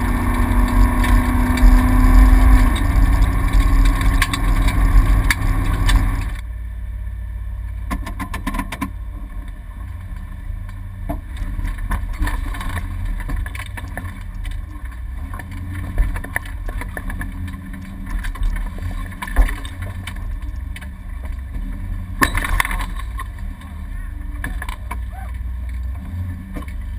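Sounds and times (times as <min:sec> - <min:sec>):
rally car engine: 0:00.0 - 0:26.9
road noise rumble: 0:00.0 - 0:26.9.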